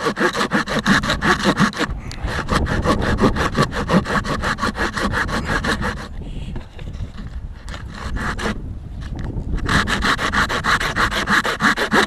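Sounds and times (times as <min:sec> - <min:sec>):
hand saw cutting wood: 0:00.0 - 0:06.2, 0:07.6 - 0:12.0.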